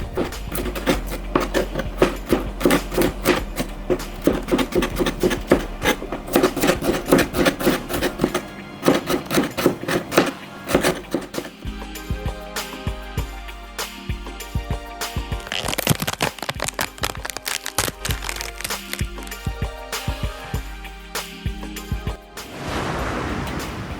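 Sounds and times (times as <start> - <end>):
background music: 0.0 - 23.9.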